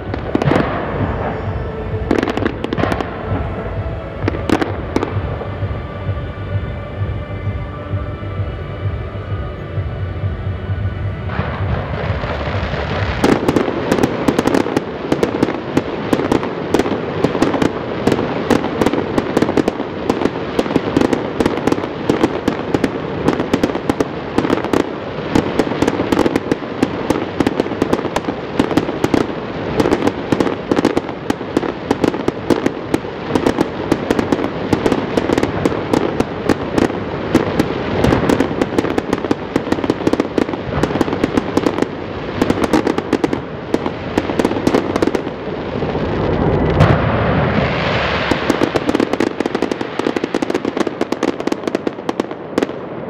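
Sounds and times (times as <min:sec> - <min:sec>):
fireworks popping and crackling: 0:00.0 - 0:07.2, 0:09.8 - 0:53.0.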